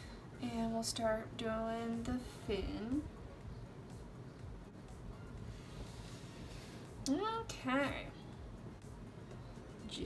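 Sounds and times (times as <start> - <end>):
faint hiss and low hum: 0.0 - 10.0.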